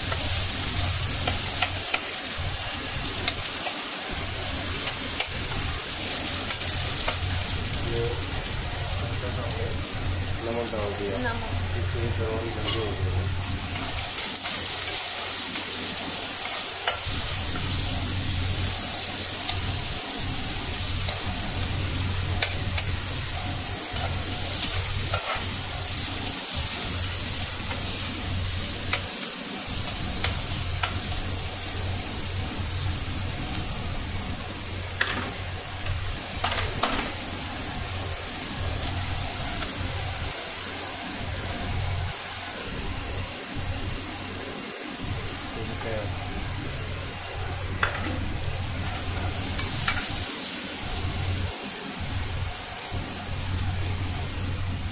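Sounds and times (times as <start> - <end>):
onions sizzling in hot oil: 0.0 - 54.9
steady low hum: 0.0 - 54.9.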